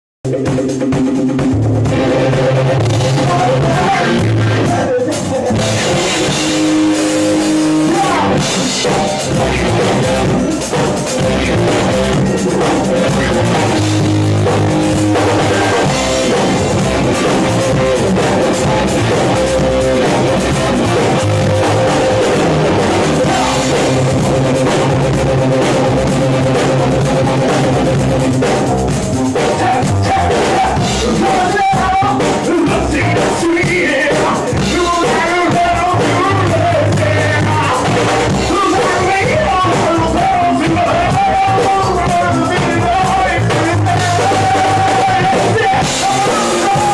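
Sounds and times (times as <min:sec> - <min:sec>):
drum kit: 0:00.2 - 0:46.9
electric guitar: 0:00.3 - 0:46.9
person singing into a microphone: 0:01.9 - 0:28.5, 0:29.1 - 0:46.9.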